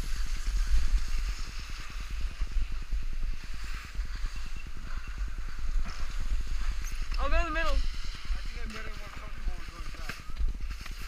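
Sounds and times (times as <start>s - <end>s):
skis sliding on packed snow: 0.0s - 11.0s
wind buffeting microphone: 0.0s - 11.0s.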